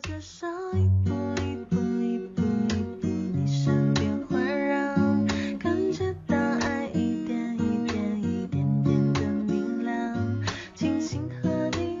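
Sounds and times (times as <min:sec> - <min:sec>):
pop song with strummed acoustic guitar: 0:00.0 - 0:12.0.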